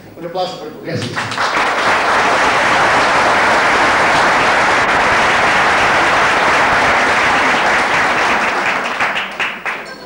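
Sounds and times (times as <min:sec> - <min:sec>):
crowd applauding: 0:01.0 - 0:10.0.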